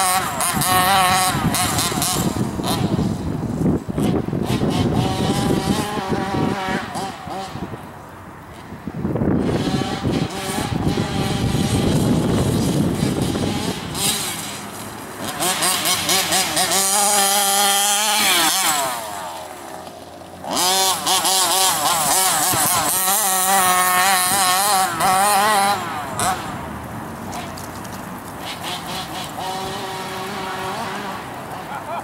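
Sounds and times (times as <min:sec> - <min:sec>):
small two-stroke engine revving: 0:00.0 - 0:07.9, 0:08.5 - 0:32.0.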